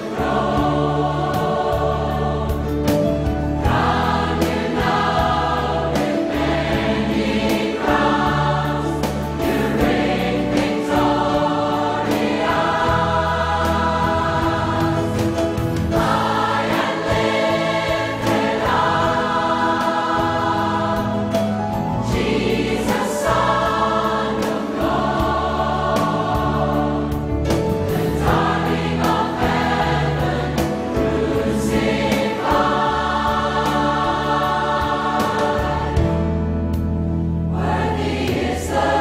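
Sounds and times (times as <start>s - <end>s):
choir singing a hymn: 0.0s - 39.0s.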